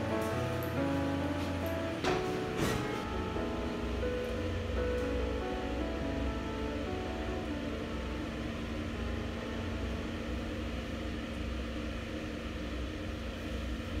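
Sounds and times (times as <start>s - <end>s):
cable car gondola rumble: 0.0s - 14.0s.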